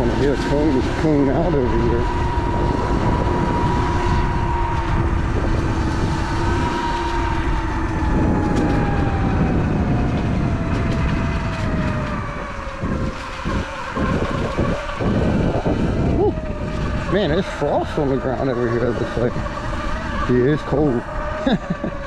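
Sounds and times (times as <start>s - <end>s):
electric motor whining: 0.0s - 22.0s
wind rumble on microphone: 0.0s - 22.0s.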